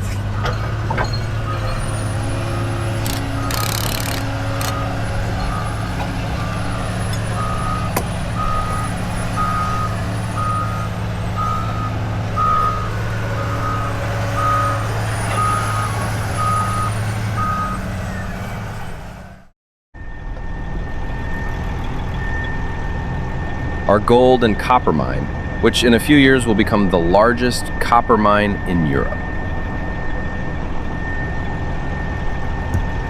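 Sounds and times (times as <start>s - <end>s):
diesel engine droning: 0.0s - 33.0s
reversing alarm beeping: 0.3s - 19.3s, 20.0s - 33.0s.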